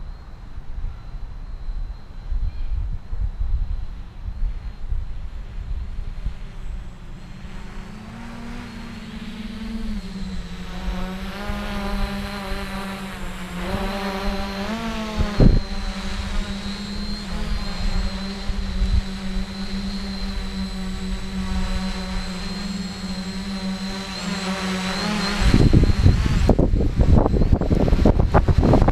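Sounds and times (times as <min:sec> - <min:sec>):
drone propellers buzzing: 0:00.0 - 0:28.9.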